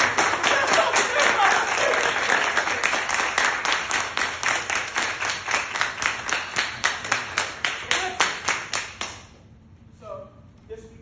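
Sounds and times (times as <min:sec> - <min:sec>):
group of people clapping: 0:00.0 - 0:09.4.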